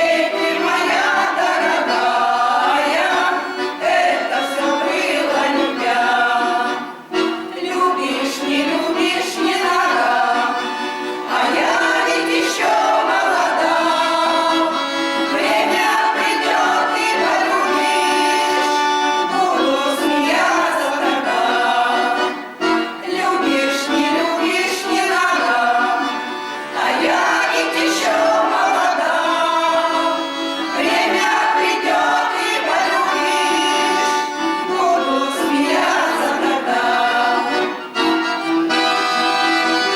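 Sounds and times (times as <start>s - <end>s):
singers singing with accompaniment: 0.0s - 39.9s.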